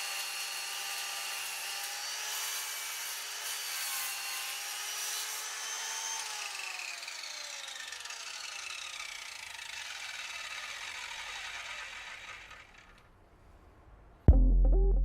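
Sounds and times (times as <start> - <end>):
circular saw winding down: 0.0 - 13.2.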